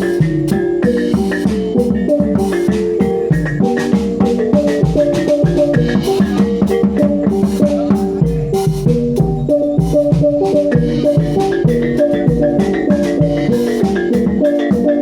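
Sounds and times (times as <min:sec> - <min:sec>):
drum strokes: 0:00.0 - 0:15.0
gamelan melody: 0:00.0 - 0:15.0.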